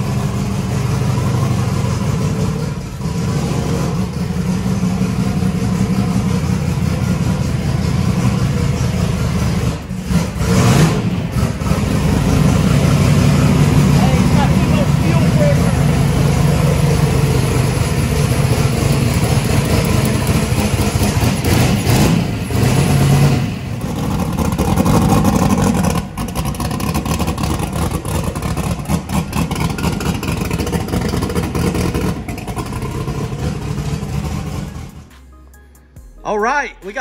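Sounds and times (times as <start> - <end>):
engine revving: 0.0 - 35.2
engine running: 0.0 - 36.1.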